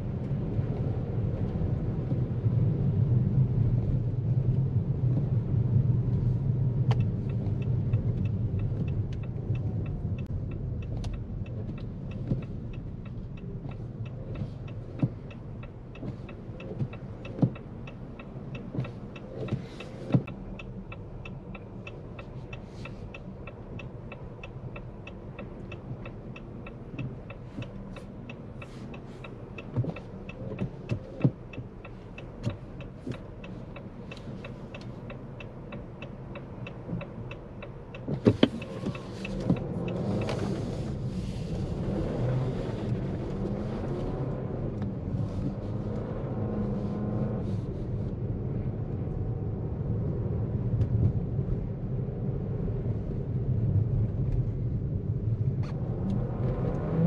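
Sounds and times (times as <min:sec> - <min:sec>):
low tyre and drivetrain rumble: 0:00.0 - 0:57.0.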